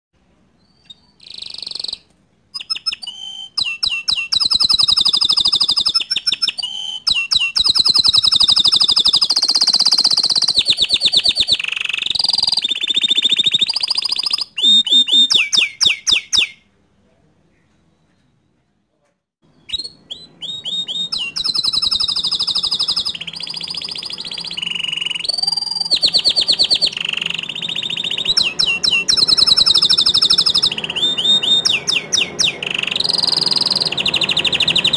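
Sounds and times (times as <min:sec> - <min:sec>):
canary singing trills: 0:00.6 - 0:16.7, 0:19.4 - 0:34.9.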